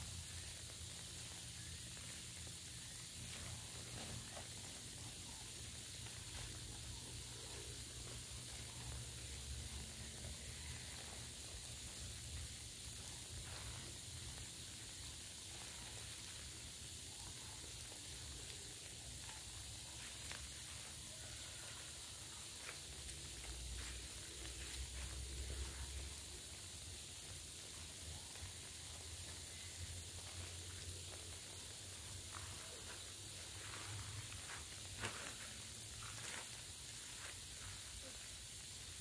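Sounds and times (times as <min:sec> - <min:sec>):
dry leaves crackling: 0:00.0 - 0:39.0
faint outdoor hiss: 0:00.0 - 0:39.0.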